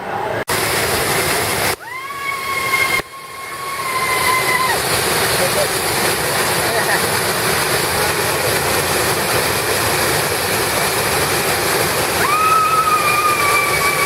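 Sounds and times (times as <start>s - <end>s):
waterfall rushing: 0.3s - 14.0s.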